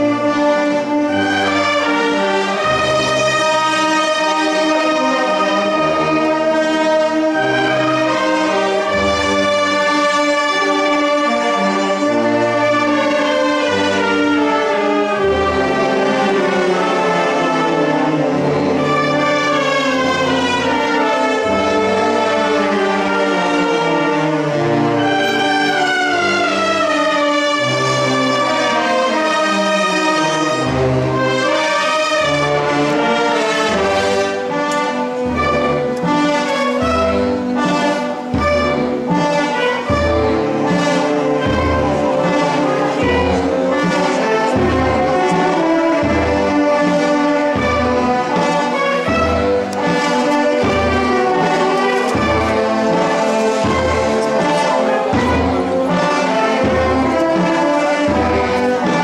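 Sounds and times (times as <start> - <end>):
brass band playing funeral march: 0.0 - 59.0.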